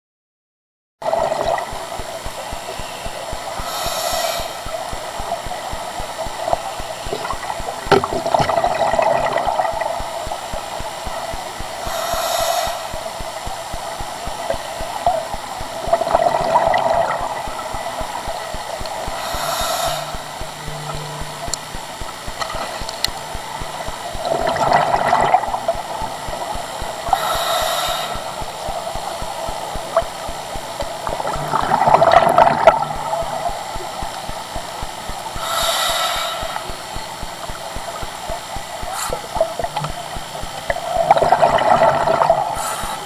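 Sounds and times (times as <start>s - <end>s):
regulator exhaust bubbles: 1.0s - 3.7s, 4.6s - 11.9s, 12.8s - 27.3s, 28.2s - 35.4s, 36.4s - 42.7s
underwater watery rush: 1.0s - 43.0s.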